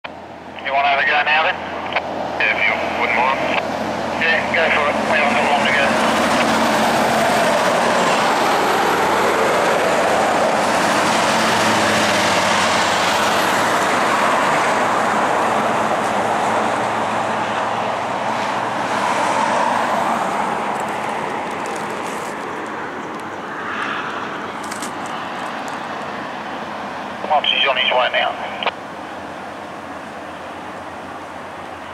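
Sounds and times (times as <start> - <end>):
low engine drone: 0.0 - 31.9
tyres rushing on road: 0.0 - 31.9.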